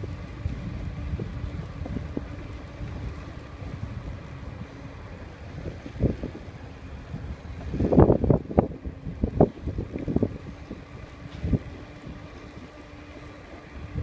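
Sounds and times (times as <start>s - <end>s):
bicycle tyres rolling on bricks: 0.0s - 14.0s
wind buffeting microphone: 0.0s - 14.0s.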